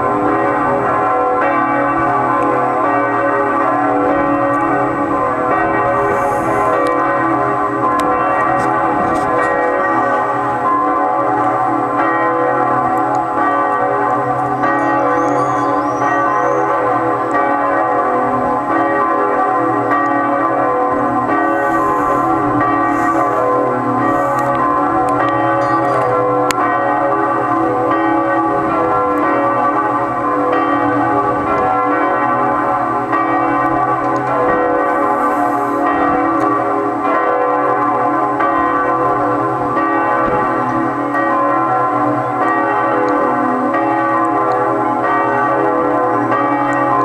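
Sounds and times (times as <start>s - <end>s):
church bells ringing: 0.0s - 47.0s.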